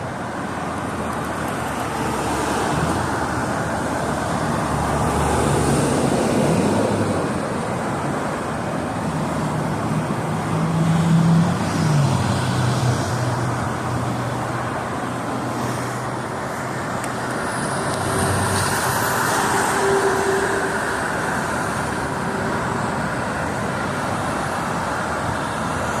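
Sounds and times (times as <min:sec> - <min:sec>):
freeway traffic roar: 0:00.0 - 0:26.0.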